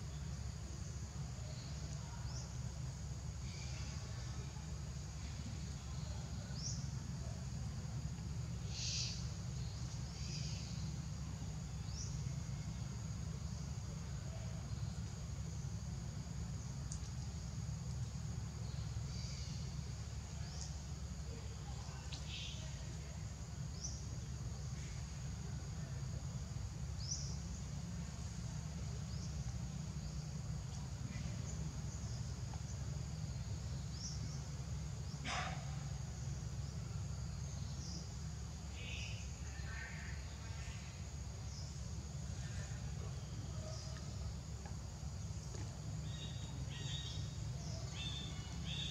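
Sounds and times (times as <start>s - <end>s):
insect drone: 0.0s - 48.9s.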